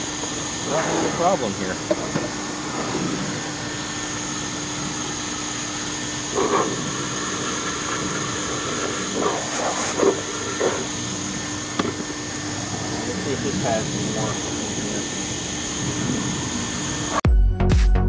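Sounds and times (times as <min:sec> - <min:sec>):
vacuum cleaner motor whining: 0:00.0 - 0:17.2.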